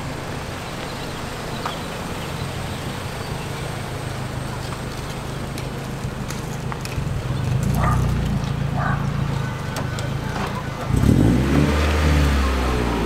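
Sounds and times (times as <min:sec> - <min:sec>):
car exhaust rumble: 0:00.0 - 0:13.0.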